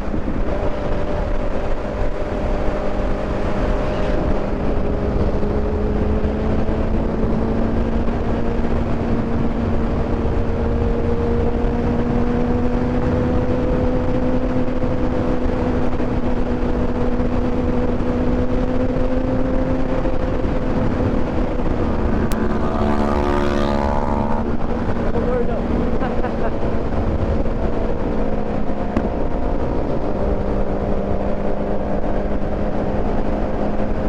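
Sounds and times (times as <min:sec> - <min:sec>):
motorcycle engine running: 0:00.0 - 0:34.0
wind rush on microphone: 0:00.0 - 0:34.0.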